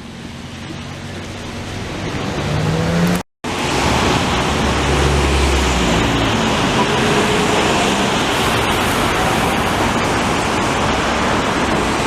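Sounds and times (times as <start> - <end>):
loud steady jet noise: 2.3 - 12.0.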